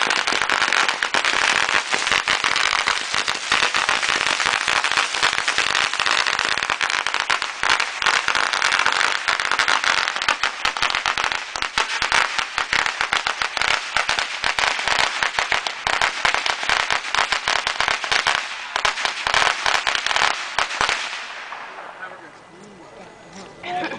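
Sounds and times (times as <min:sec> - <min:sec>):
firecrackers crackling: 0:00.0 - 0:22.5.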